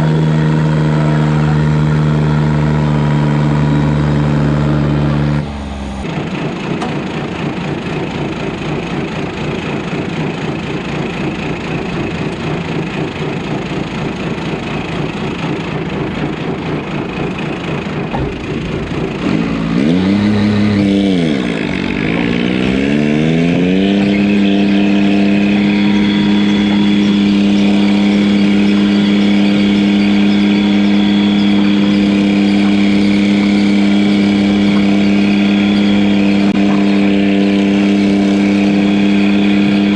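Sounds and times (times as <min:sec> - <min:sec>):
diesel tractor engine running rough: 0:00.0 - 0:39.9.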